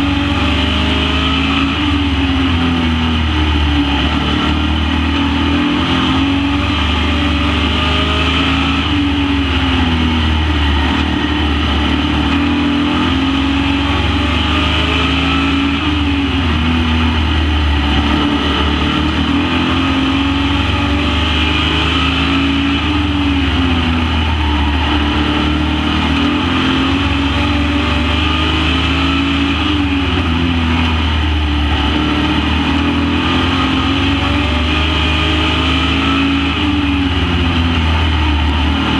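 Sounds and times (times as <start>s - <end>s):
race truck engines revving: 0.0s - 38.9s.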